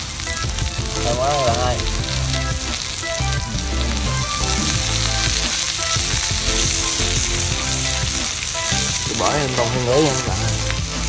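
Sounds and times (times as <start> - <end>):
meat and flowers sizzling: 0.0 - 11.0.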